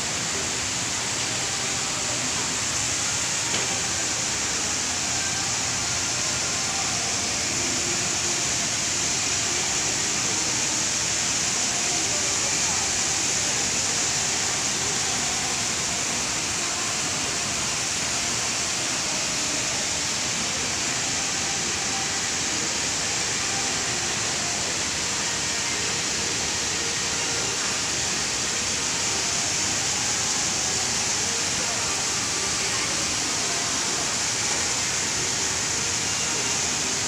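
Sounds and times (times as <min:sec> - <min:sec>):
waterfall into a pond: 0:00.0 - 0:37.0.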